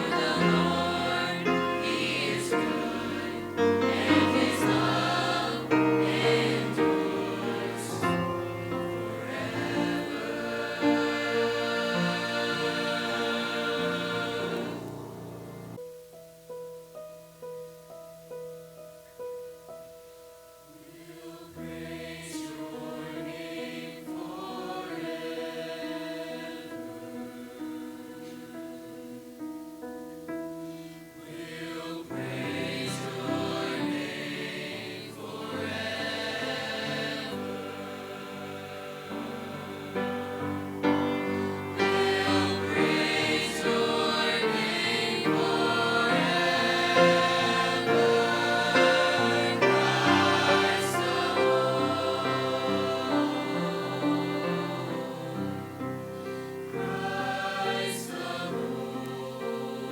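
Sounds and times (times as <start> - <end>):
choir singing worship song: 0.0 - 15.8, 20.7 - 59.9.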